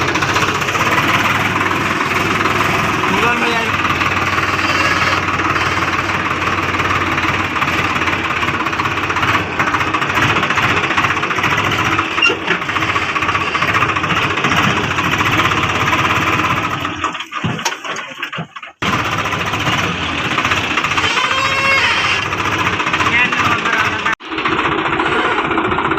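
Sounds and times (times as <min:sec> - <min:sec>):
tractor diesel engine clattering: 0:00.0 - 0:25.9.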